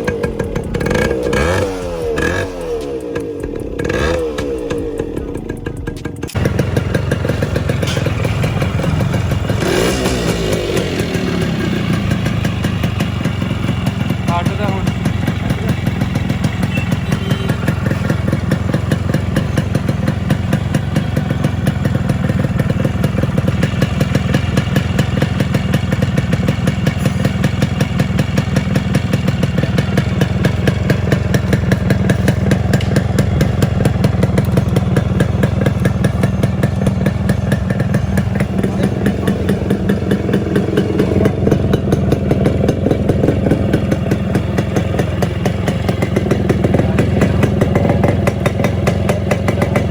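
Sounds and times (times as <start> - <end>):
two-stroke engine idling: 0.0 - 49.9.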